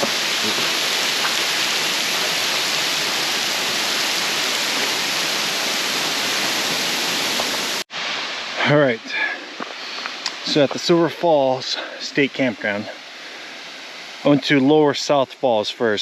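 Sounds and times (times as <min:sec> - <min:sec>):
waterfall rushing: 0:00.0 - 0:15.4.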